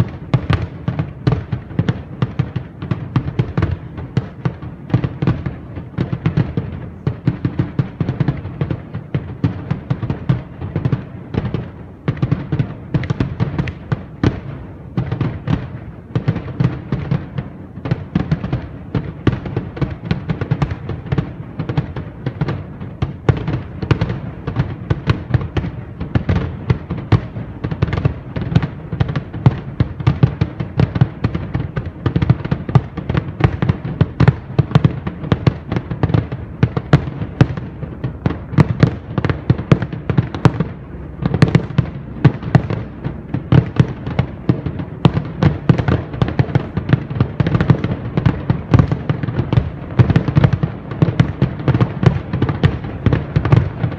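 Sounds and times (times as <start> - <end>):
fireworks bursting and crackling: 0.0 - 53.9.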